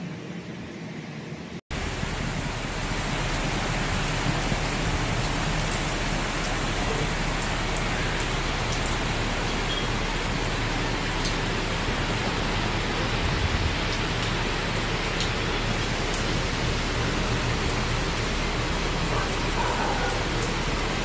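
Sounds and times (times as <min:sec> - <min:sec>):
heavy rain falling: 0:01.7 - 0:21.0.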